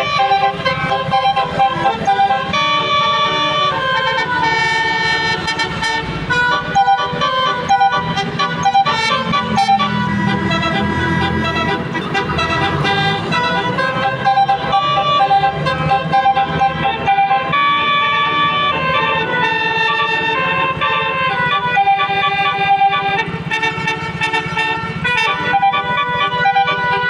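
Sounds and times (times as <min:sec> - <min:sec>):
bus engine running: 0:00.0 - 0:27.0
musical bus horn melody: 0:00.0 - 0:27.0.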